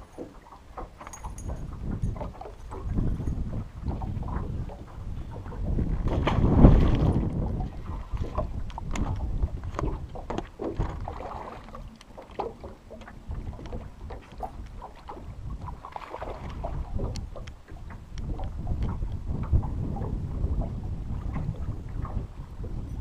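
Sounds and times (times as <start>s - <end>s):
wind buffeting microphone: 0.8s - 23.0s.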